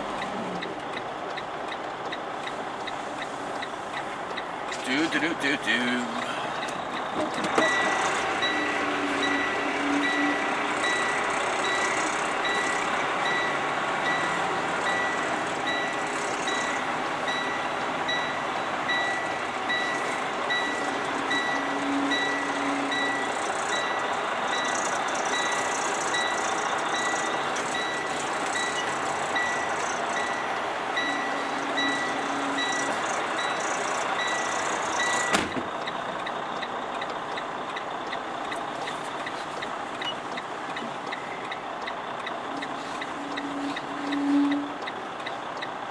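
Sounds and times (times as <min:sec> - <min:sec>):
diesel engine running: 0:00.0 - 0:45.9
truck backup alarm beeping: 0:00.0 - 0:45.9.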